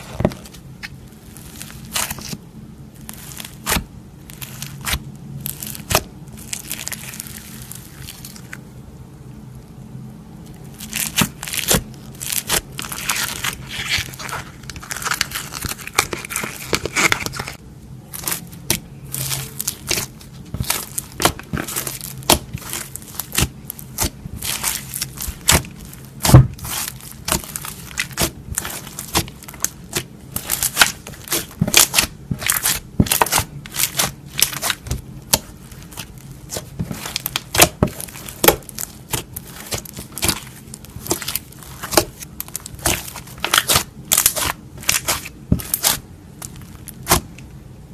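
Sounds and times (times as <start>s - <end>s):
slime popping and crackling: 0.0s - 8.6s, 10.5s - 47.4s.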